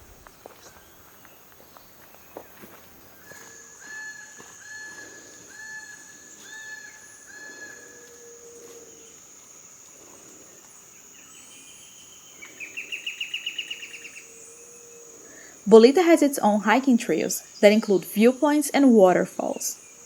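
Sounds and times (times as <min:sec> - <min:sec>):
high insect whine: 0:00.0 - 0:20.0.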